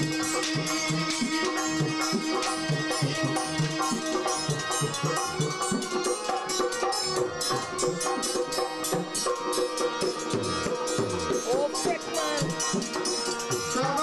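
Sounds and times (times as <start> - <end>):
hand drum rhythm: 0.0 - 14.0
sustained melody notes: 0.0 - 14.0.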